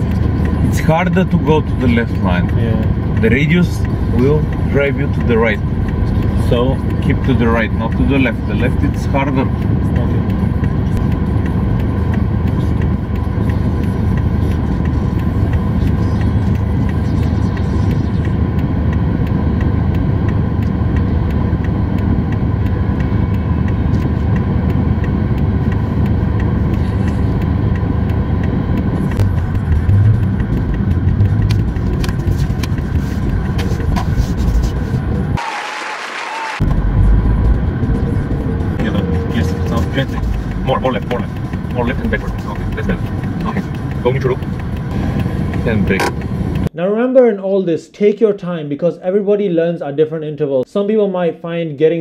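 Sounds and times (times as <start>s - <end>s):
car engine and road noise: 0.0s - 46.8s.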